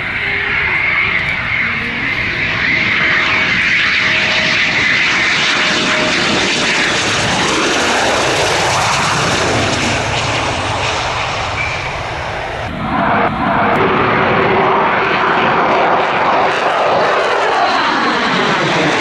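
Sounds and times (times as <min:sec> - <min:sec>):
jet engine passing with whine: 0:00.0 - 0:19.0.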